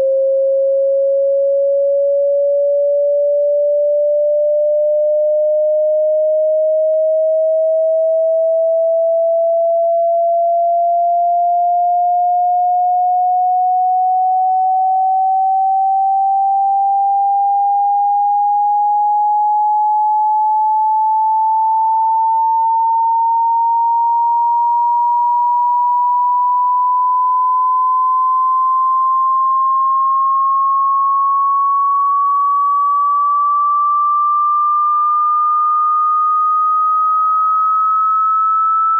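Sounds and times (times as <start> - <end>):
rising sine-wave tone: 0.0 - 38.9.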